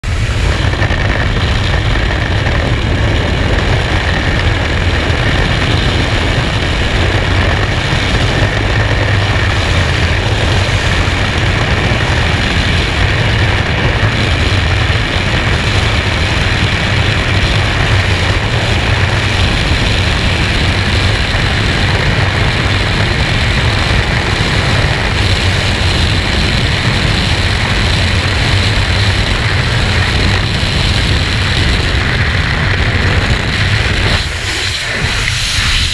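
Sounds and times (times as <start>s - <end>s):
wind rushing over microphone: 0.0s - 35.9s.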